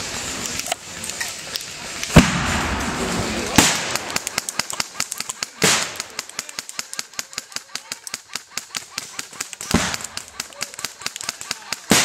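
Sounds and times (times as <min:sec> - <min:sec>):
loud crack: 0:01.9 - 0:12.0
airsoft guns firing: 0:02.0 - 0:12.0.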